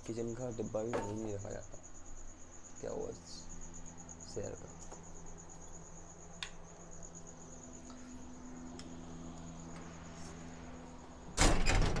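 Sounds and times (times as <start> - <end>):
cricket chirping: 0.0 - 12.0
low steady hum: 0.0 - 12.0.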